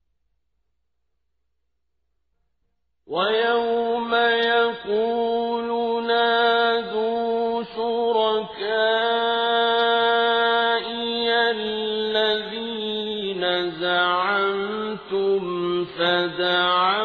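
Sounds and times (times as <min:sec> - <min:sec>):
man reciting melodically: 0:03.1 - 0:17.0.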